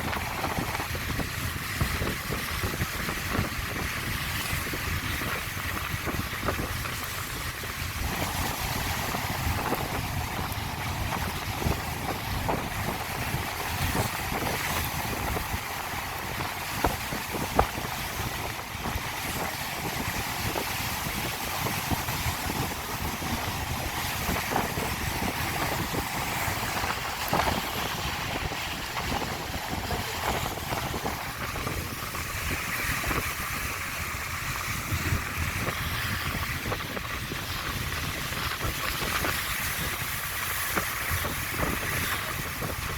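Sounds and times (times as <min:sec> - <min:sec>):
stream rushing over rocks: 0:00.0 - 0:42.9
wind rumble on microphone: 0:00.0 - 0:42.9.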